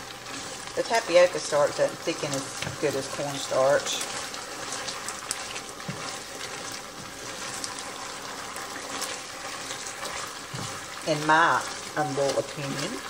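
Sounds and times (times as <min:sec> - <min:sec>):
chicken sizzling in a skillet: 0:00.0 - 0:13.0.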